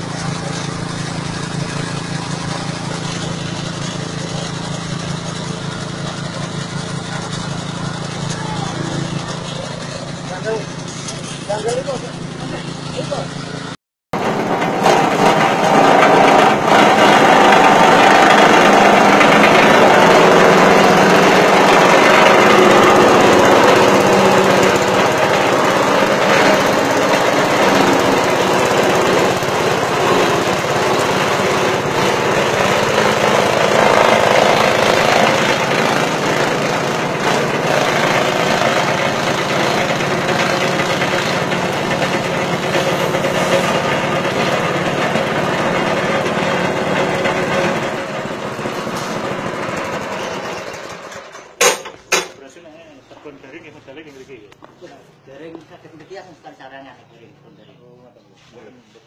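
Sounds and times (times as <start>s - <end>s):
grass chopper shredding grass: 0.0s - 52.3s.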